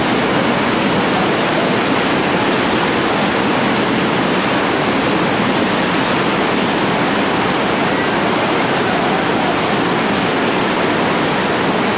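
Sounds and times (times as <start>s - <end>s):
whitewater rapids rushing: 0.0s - 11.9s.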